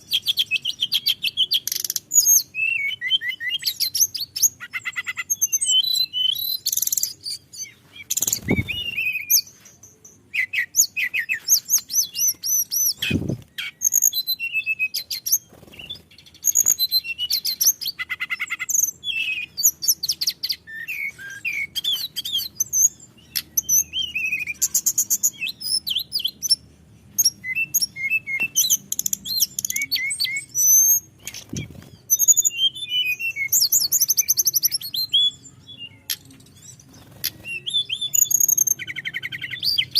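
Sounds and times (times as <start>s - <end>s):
bird singing whistled trills: 0.0s - 26.6s, 27.2s - 39.9s.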